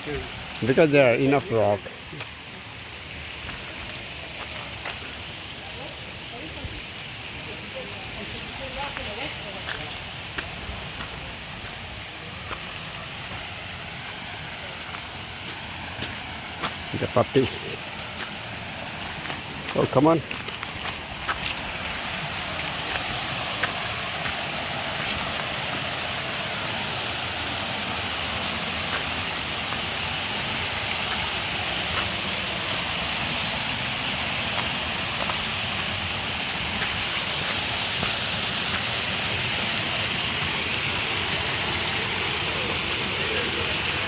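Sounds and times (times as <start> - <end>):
water rushing over rocks: 0.0 - 44.0.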